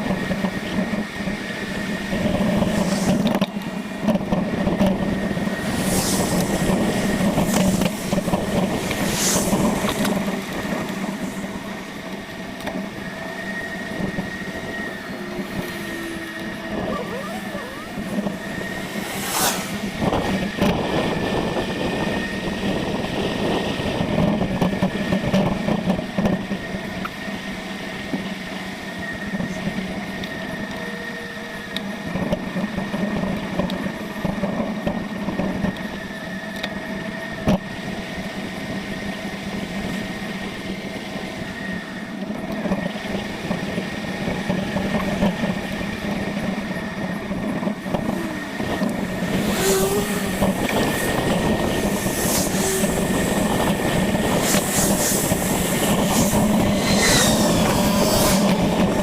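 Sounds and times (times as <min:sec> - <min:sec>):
bicycle riding rumble with rattles: 0:00.0 - 0:59.0.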